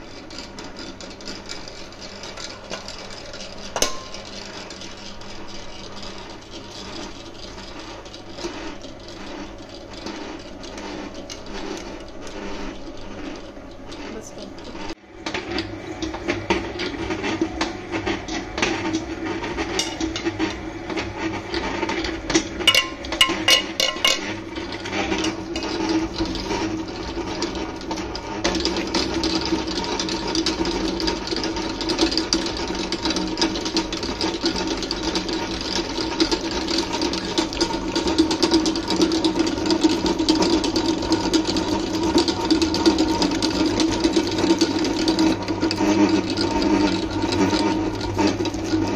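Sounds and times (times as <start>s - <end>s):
stand mixer kneading dough: 0.0s - 48.9s.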